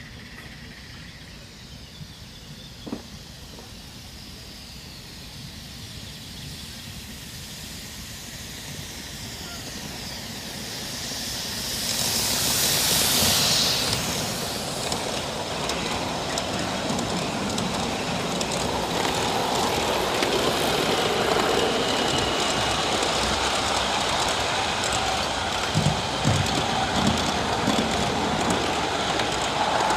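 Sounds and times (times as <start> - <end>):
model train rumbling: 0.0 - 29.9
steam hissing: 0.0 - 29.9.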